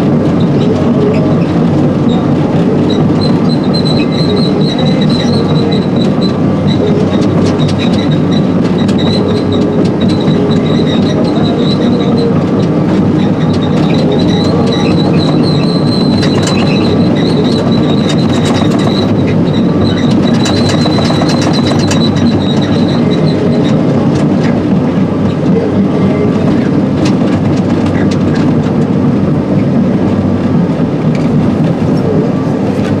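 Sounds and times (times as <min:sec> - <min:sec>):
diesel engine running: 0:00.0 - 0:33.0
high steady whine: 0:00.0 - 0:33.0
steel tracks clanking: 0:00.0 - 0:33.0.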